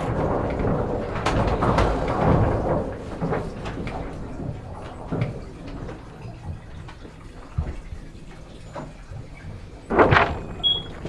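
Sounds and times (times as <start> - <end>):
knocks and clatter on sailboat: 0.0 - 11.0.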